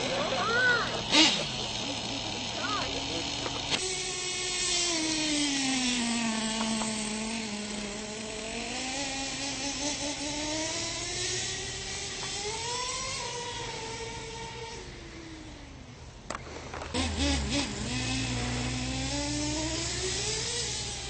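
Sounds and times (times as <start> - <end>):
toy truck motor running: 0.0 - 15.8, 16.7 - 21.0.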